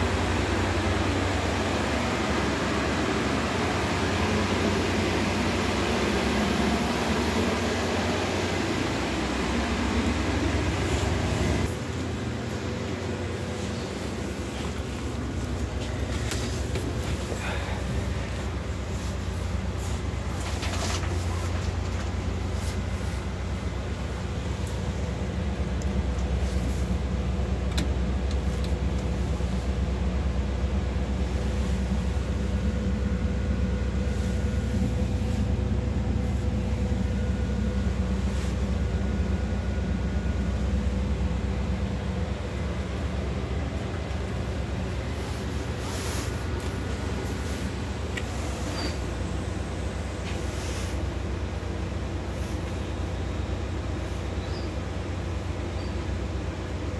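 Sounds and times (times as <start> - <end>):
bus engine low hum: 0.0 - 56.9.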